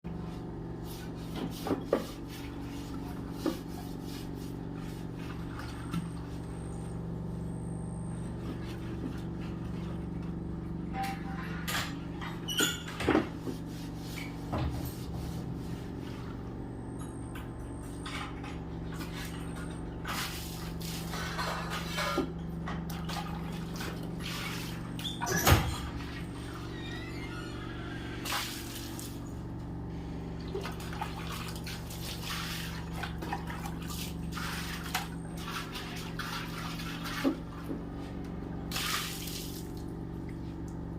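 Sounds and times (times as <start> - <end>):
steady low hum: 0.1 - 40.9.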